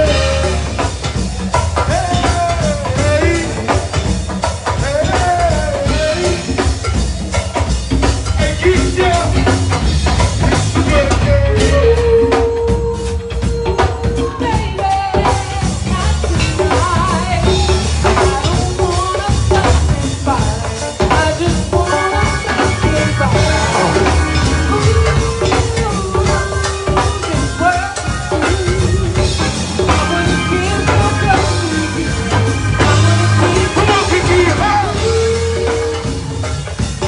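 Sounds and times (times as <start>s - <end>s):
person singing: 0.0s - 1.0s, 1.8s - 4.1s, 4.7s - 6.9s, 10.8s - 36.6s
drum kit and percussion groove: 0.0s - 37.0s
live band playing: 0.0s - 37.0s.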